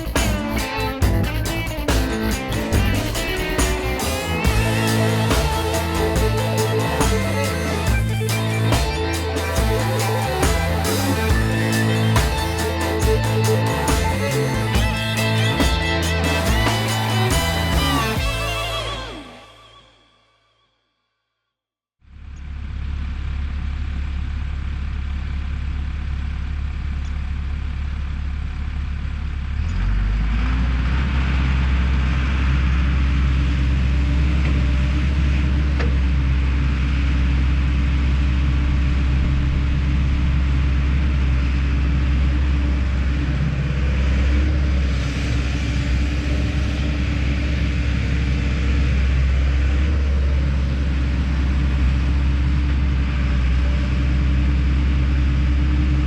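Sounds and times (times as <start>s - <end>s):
excavator diesel engine revving: 0.0s - 19.4s, 29.4s - 56.0s.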